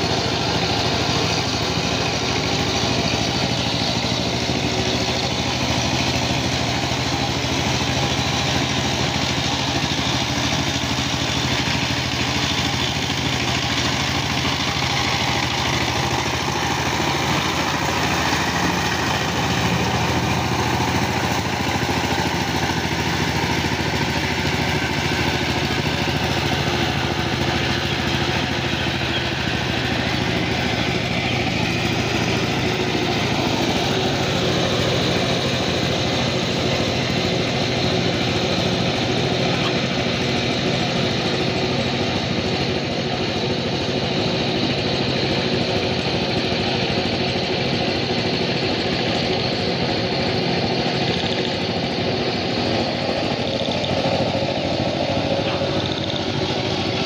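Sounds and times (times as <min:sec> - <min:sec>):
power tiller engine running: 0:00.0 - 0:57.0.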